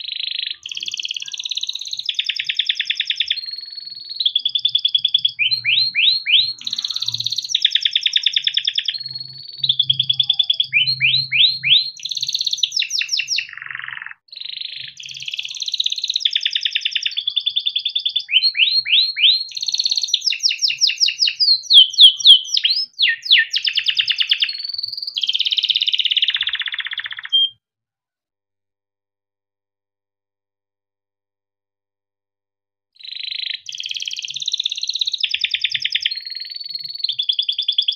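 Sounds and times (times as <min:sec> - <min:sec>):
canary singing trills: 0:00.0 - 0:27.6, 0:33.0 - 0:37.9.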